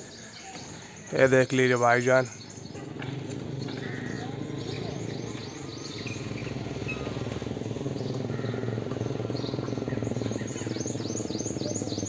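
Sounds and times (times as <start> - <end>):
small birds chirping: 0.0 - 12.0
steady low hum: 1.9 - 12.0.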